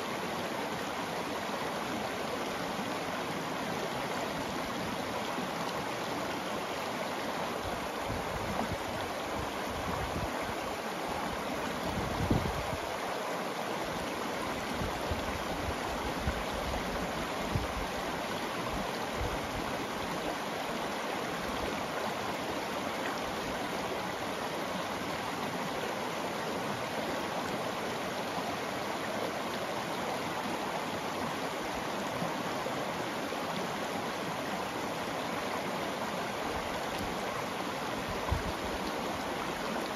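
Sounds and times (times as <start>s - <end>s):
river rushing over cobbles: 0.0s - 39.9s.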